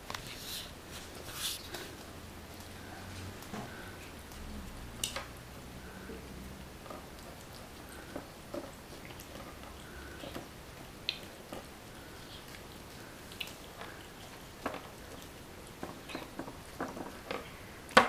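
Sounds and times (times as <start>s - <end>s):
cat chewing: 0.6s - 18.0s.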